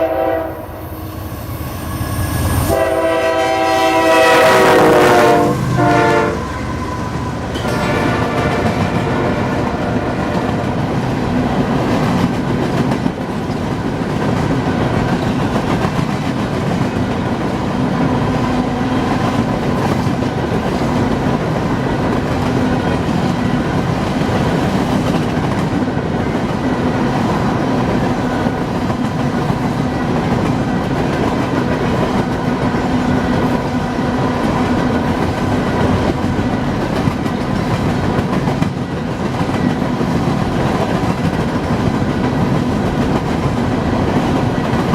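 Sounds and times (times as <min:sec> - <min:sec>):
freight train wheels clattering: 0:02.7 - 0:44.9.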